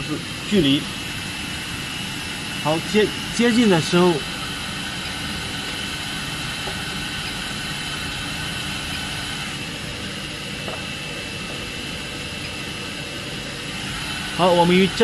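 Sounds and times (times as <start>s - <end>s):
factory machinery hum and hiss: 0.0s - 15.0s
high whine: 0.0s - 15.0s.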